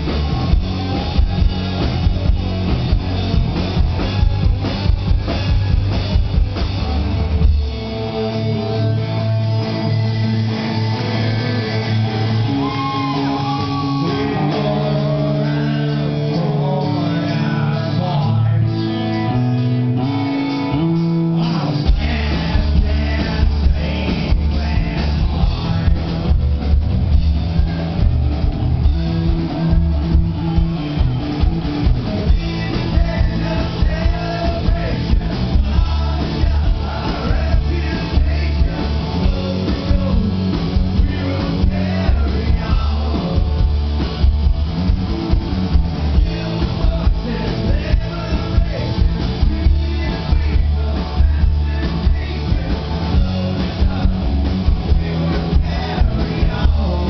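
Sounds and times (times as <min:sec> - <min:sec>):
electric guitar chords: 0:00.0 - 0:57.0
live rock band playing: 0:00.0 - 0:57.0.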